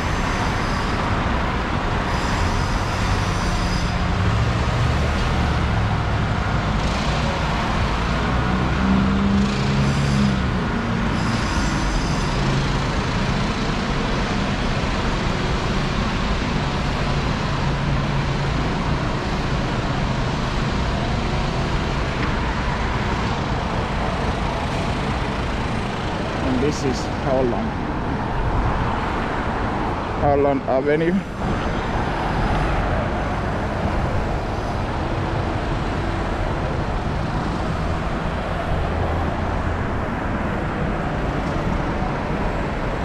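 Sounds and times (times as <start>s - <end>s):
road traffic: 0.0s - 43.0s.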